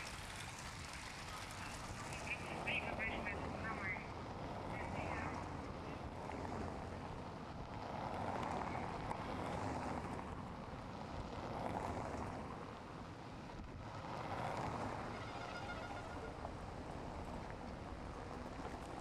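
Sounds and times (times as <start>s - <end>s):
cars passing on cobblestones: 0.0s - 19.0s.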